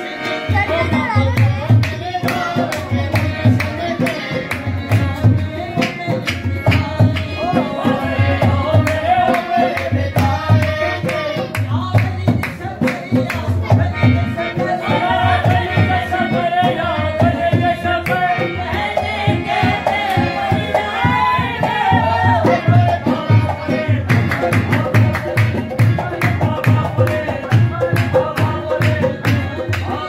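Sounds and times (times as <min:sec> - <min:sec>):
tabla: 0:00.0 - 0:30.0.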